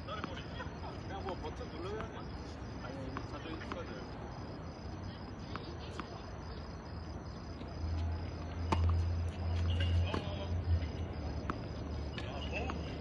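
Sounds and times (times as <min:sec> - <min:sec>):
tennis balls struck by rackets: 0:00.0 - 0:06.8, 0:07.4 - 0:13.0.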